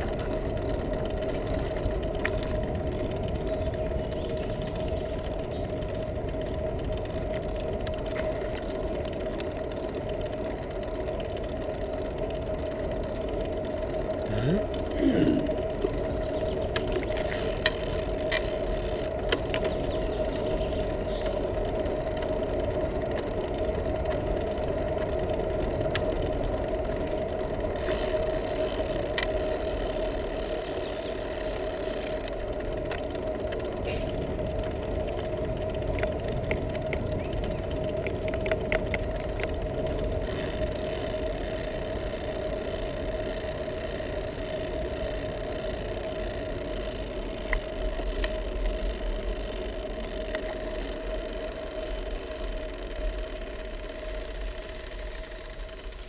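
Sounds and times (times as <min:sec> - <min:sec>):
bicycle tyres rumbling on asphalt: 0:00.0 - 0:56.0
bike rattling clicks: 0:00.0 - 0:56.0.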